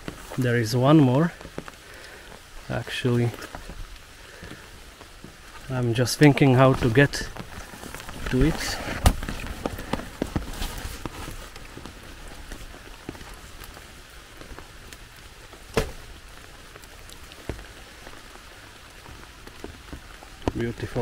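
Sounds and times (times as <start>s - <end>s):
rain pattering on grass and leaves: 0.0s - 21.0s.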